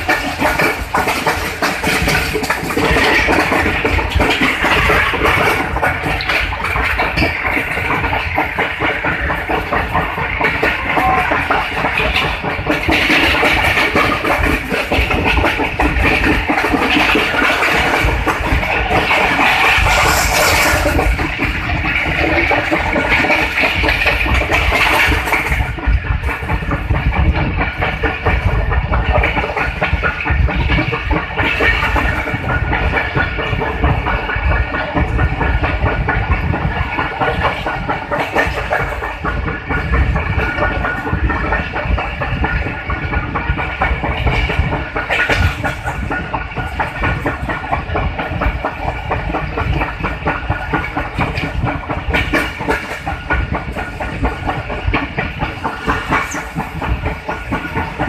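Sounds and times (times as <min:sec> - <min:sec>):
steady hum: 0:00.0 - 0:58.0
train rushing rumble: 0:00.0 - 0:58.0
wheels clattering over rail joints: 0:00.0 - 0:58.0.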